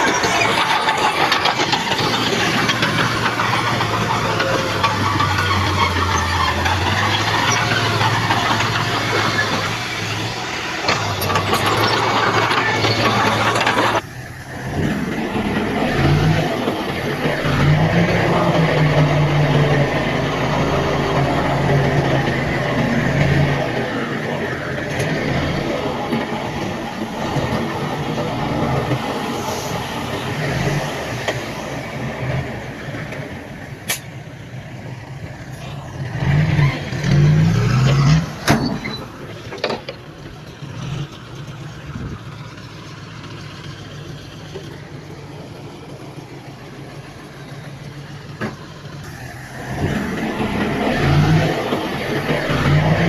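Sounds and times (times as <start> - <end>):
earthmoving machinery engines droning: 0.0 - 53.0.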